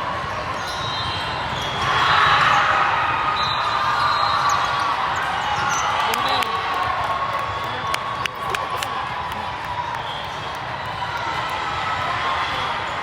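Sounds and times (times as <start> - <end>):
crowd voices: 0.0 - 13.0.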